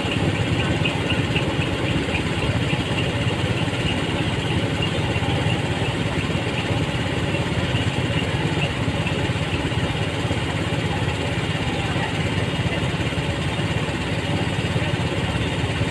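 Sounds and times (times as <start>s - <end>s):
diesel engine running steadily: 0.0s - 15.9s.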